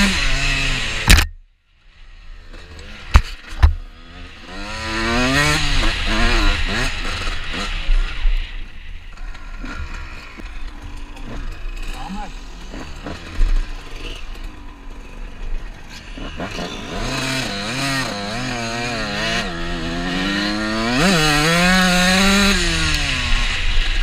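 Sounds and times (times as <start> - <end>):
dirt bike engine revving: 0.0 - 1.2, 2.1 - 24.0.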